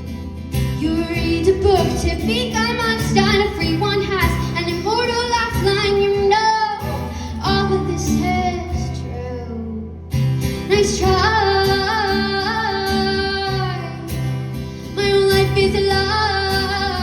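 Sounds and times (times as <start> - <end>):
woman singing pop song: 0.0 - 17.0.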